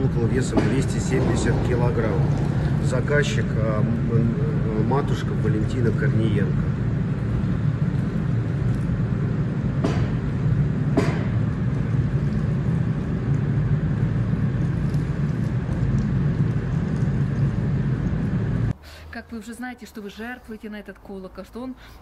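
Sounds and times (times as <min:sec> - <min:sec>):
low foundry rumble: 0:00.0 - 0:22.0.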